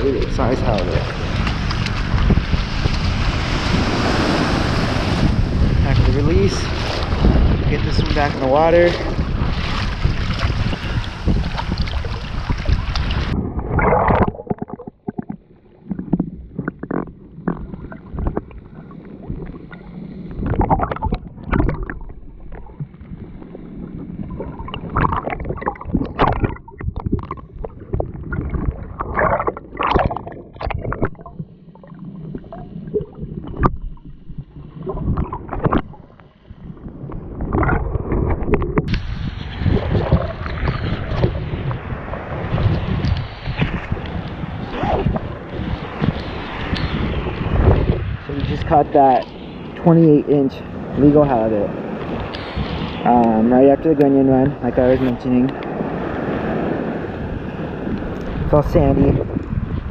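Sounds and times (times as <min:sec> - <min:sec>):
waves washing on shore: 0:00.0 - 0:14.7, 0:15.4 - 0:59.9
muffled water sloshing: 0:00.0 - 0:59.9
wind on microphone: 0:00.0 - 0:59.9.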